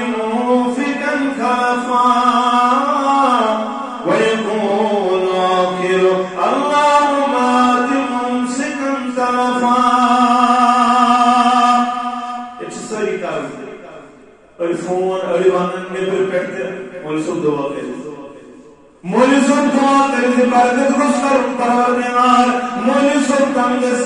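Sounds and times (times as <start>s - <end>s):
man chanting melodically: 0.0s - 24.0s.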